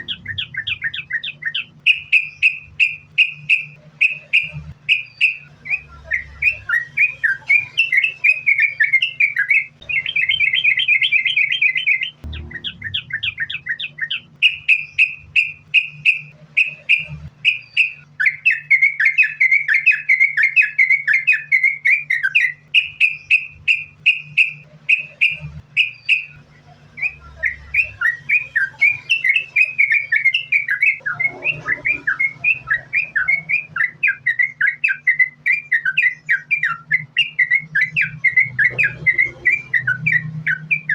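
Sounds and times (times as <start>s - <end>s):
bird singing bubbly song: 0.0s - 40.9s
faint low hum: 0.0s - 40.9s.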